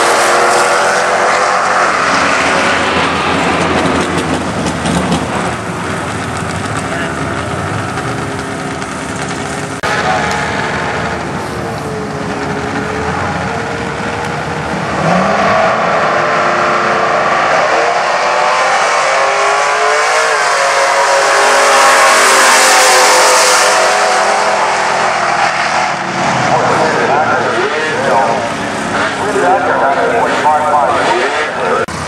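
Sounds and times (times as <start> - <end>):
race car engines accelerating: 0.0 - 32.0.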